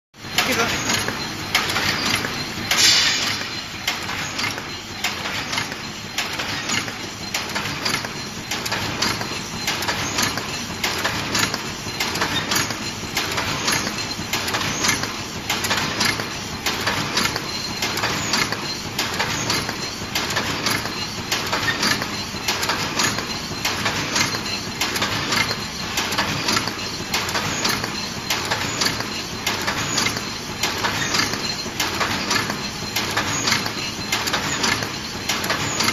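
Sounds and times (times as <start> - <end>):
machine clicks and clatter: 0.2 - 35.9
loud machine knock: 0.4 - 35.9.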